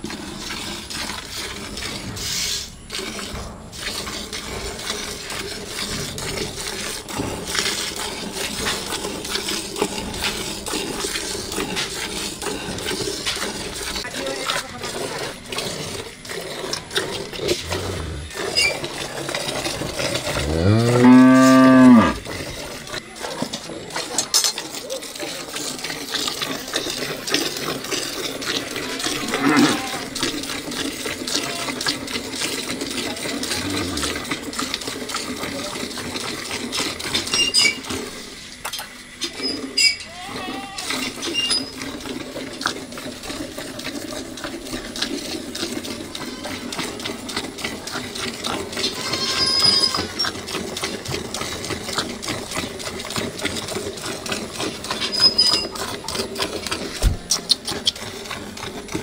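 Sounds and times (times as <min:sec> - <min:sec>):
milk squirting into metal pail: 0:00.0 - 0:20.6, 0:21.4 - 0:39.8, 0:40.8 - 0:59.0.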